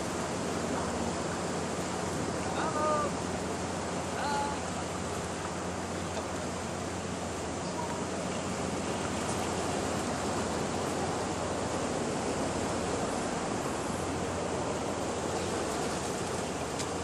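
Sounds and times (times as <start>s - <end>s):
surf washing over rocky shore: 0.0s - 17.0s.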